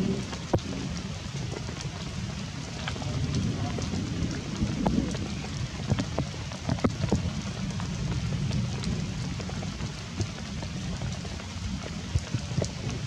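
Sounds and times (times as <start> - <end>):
close raindrops tapping: 0.0 - 13.0
steady rain falling: 0.0 - 13.0.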